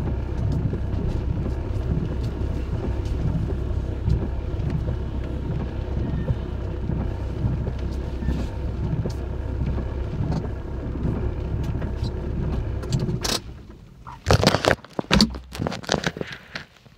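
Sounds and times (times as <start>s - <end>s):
road and engine rumble: 0.0s - 16.9s.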